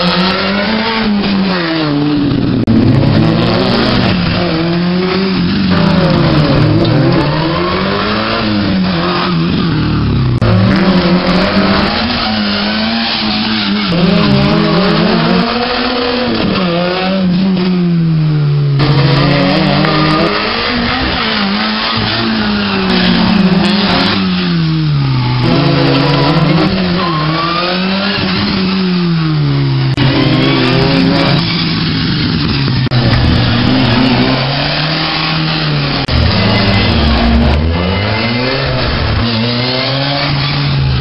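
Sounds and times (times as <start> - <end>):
rally car engine revving hard: 0.0 - 41.0.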